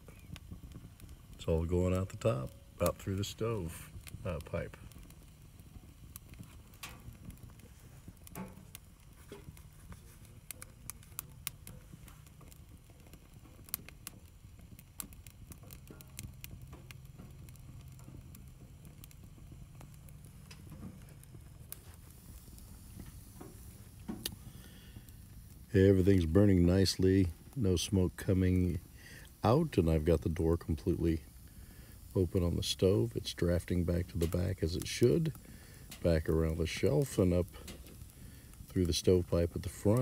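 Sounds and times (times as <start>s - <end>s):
stove low rumble: 0.0s - 40.0s
wood fire crackling and popping: 0.0s - 40.0s.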